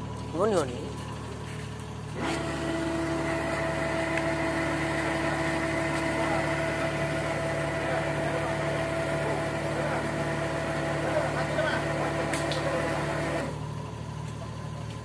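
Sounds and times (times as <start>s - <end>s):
constant whine: 0.0s - 15.0s
truck engine idling: 0.0s - 15.0s.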